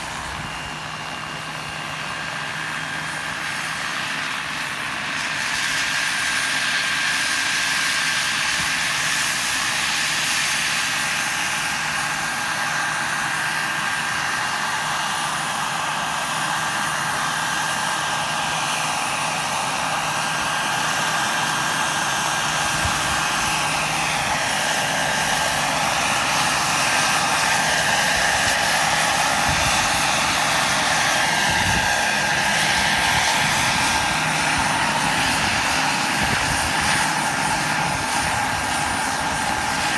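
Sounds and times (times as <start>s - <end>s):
model helicopter drive whine: 0.0s - 39.9s.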